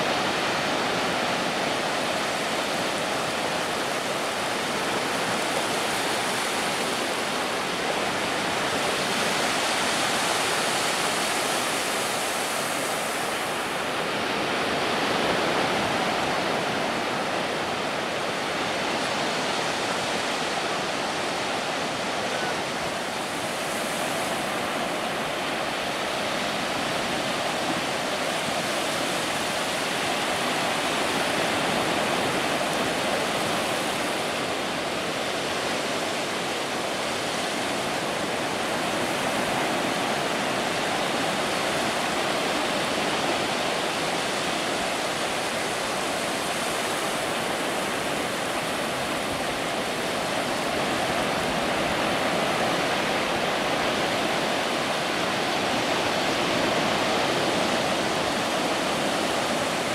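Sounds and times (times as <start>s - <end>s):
surf washing up a beach: 0.0s - 59.9s.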